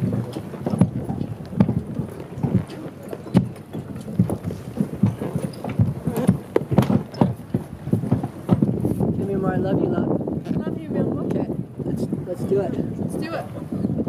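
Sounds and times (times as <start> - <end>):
knocking on wooden dock: 0.0 - 11.5.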